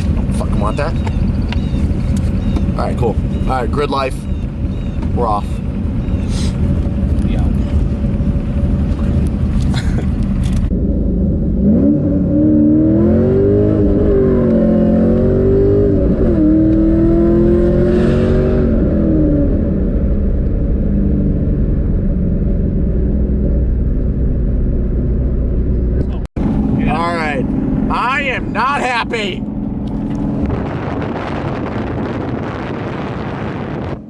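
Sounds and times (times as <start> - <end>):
car engine accelerating: 0.0 - 34.0
road noise: 0.0 - 34.0.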